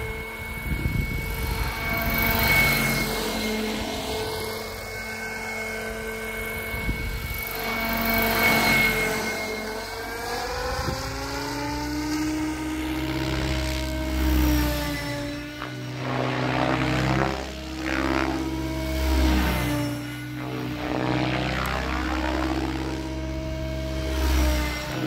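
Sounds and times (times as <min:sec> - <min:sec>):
rc helicopter rotor whine: 0:00.0 - 0:25.0.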